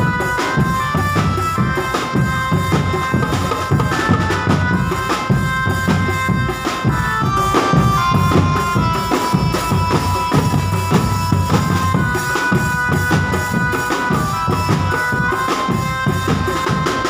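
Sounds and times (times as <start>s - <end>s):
melody of long held notes: 0.0s - 17.0s.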